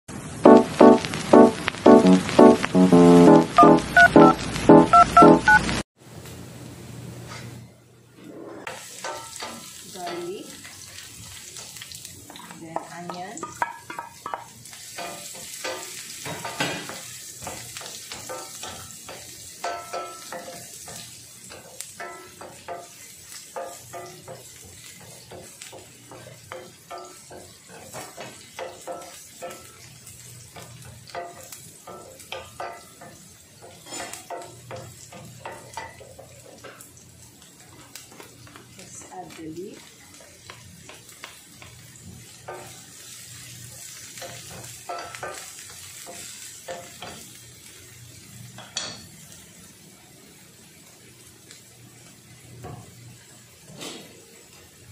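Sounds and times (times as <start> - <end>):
garlic and onion sizzling in oil: 0.1 - 7.7, 8.6 - 54.9.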